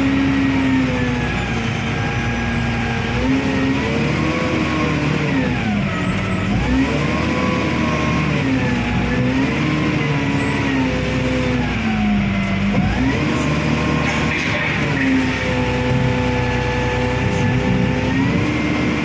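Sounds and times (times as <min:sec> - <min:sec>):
diesel engine revving under load: 0:00.0 - 0:19.0.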